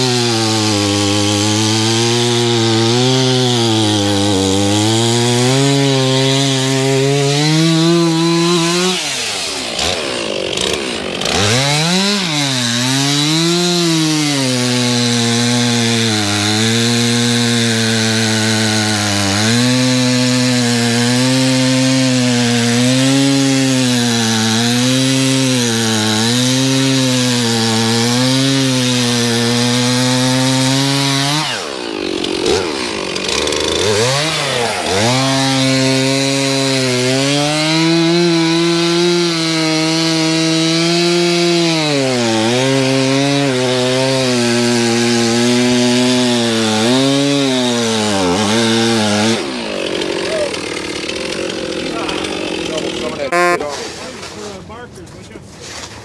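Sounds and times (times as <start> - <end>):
chainsaw cutting ice: 0.0 - 54.8.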